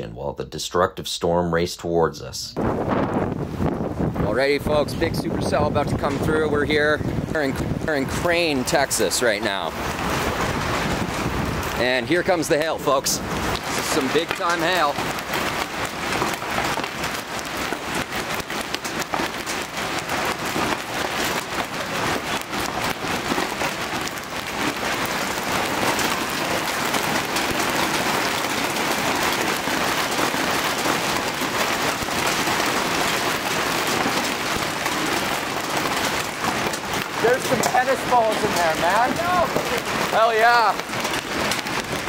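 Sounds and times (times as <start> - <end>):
hail clattering: 3.5 - 42.0
heavy rain hissing: 6.9 - 42.0.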